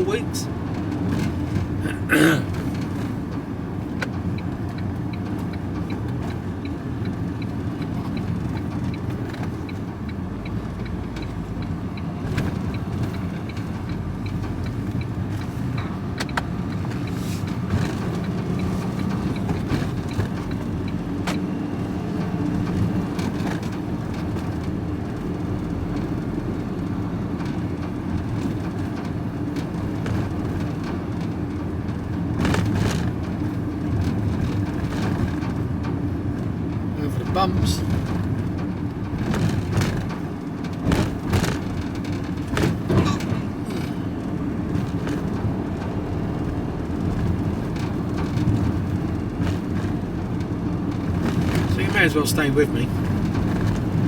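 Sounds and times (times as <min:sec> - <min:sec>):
van engine droning: 0:00.0 - 0:54.0.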